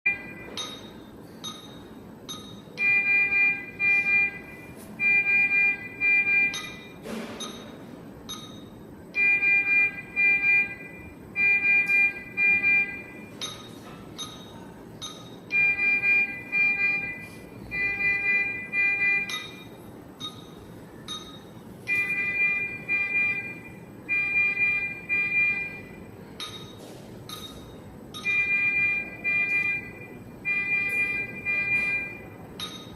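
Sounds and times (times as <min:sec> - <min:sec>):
multi-note monitor alarm: 0:00.0 - 0:26.7, 0:27.3 - 0:32.9.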